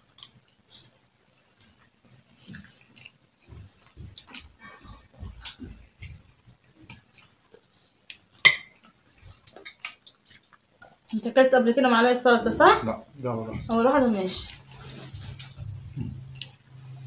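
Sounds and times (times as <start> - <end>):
person chewing softly: 0.0 - 11.2, 14.4 - 17.0.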